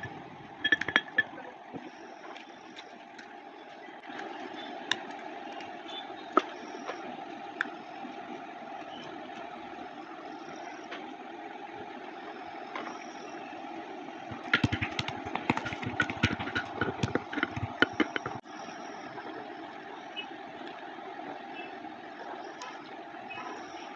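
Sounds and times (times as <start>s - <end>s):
steady background hum: 0.0s - 23.9s.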